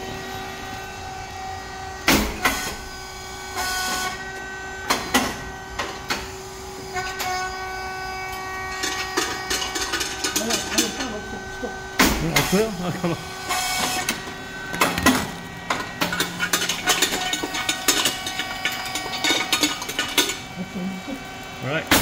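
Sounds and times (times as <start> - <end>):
machine motor humming: 0.0 - 22.0.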